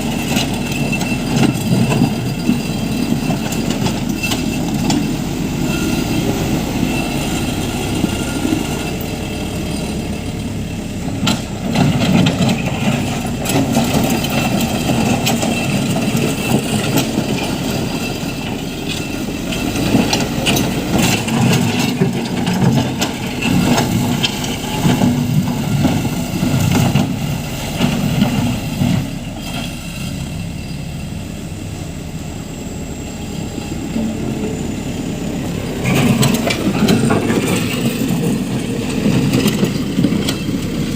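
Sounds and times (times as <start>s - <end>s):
diesel engine working: 0.0s - 40.9s.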